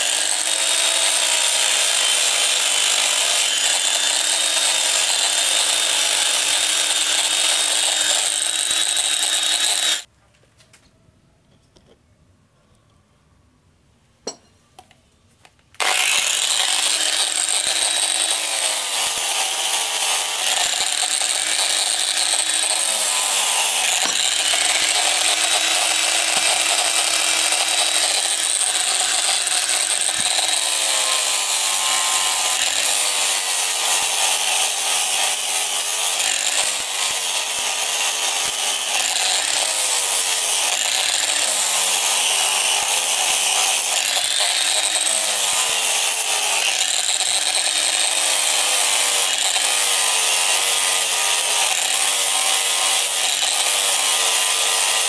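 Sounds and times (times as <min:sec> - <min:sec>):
angle grinder sanding steel: 0:00.0 - 0:10.1, 0:15.8 - 0:55.0.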